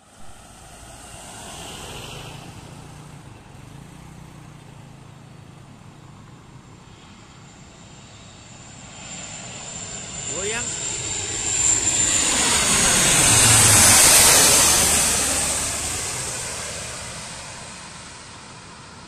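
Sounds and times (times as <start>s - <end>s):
turboprop aircraft drone: 0.0s - 19.0s.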